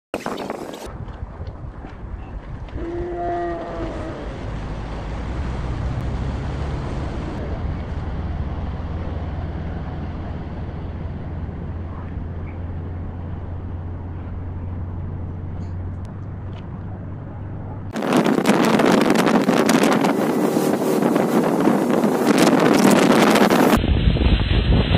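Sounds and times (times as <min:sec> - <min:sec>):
wind buffeting microphone: 0:00.1 - 0:24.9
speedboat engine droning: 0:02.8 - 0:23.8.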